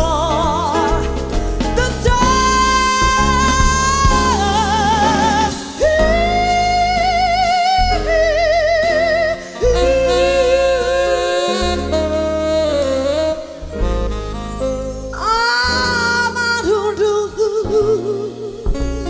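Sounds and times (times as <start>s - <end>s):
band accompaniment: 0.0s - 19.0s
woman singing jazz ballad: 0.0s - 19.0s.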